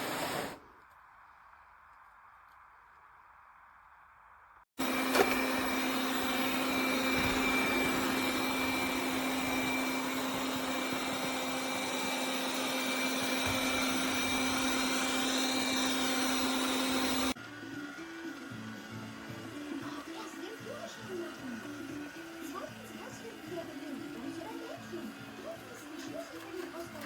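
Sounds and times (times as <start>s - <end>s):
robot vacuum whirring: 4.8s - 27.0s.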